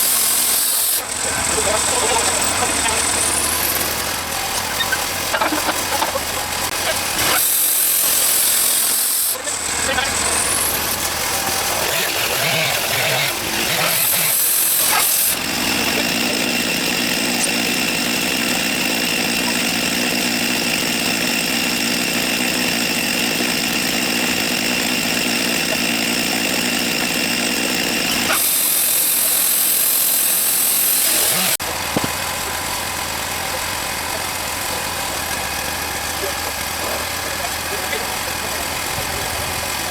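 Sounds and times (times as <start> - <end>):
band sawmill droning: 0.0 - 39.9.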